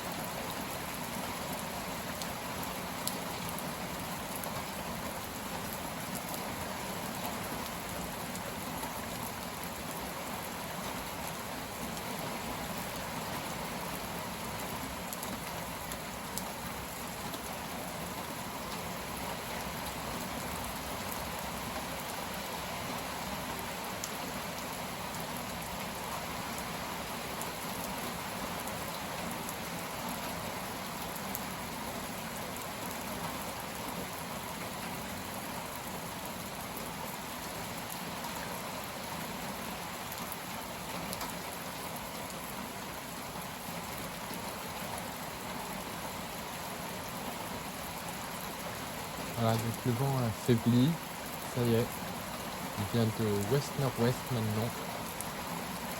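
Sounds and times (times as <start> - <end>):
raindrops pattering on surfaces: 0.0 - 55.9
heavy rain falling: 0.1 - 55.9.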